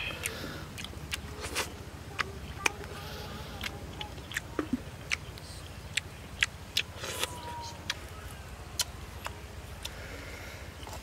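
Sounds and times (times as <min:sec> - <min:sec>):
person chewing with wet smacks: 0:00.0 - 0:08.0, 0:08.7 - 0:10.0
steady low hum: 0:00.0 - 0:11.0.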